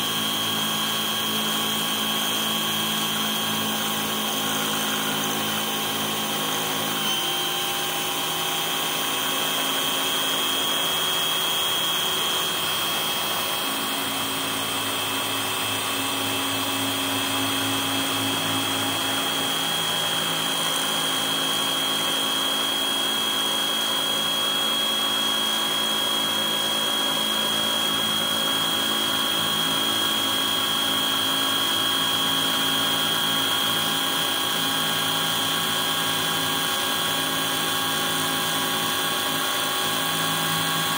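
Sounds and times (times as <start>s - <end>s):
engraver spindle whine: 0.0s - 40.9s.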